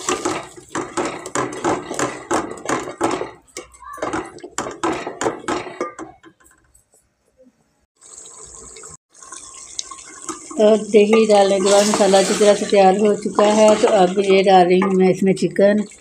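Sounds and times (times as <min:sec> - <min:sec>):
metal spoon scraping pot: 0:00.0 - 0:07.0, 0:10.1 - 0:15.9.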